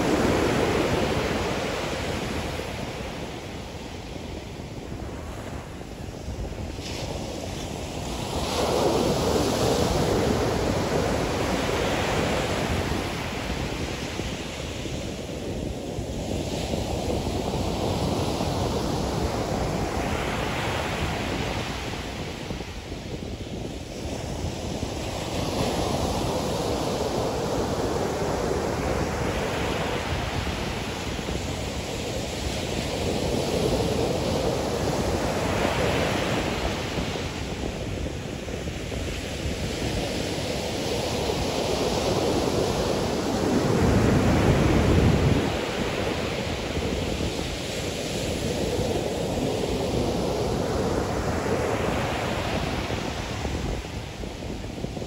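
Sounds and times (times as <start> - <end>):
ocean surf breaking: 0.0 - 16.1, 24.6 - 55.0
wind buffeting microphone: 0.0 - 55.0.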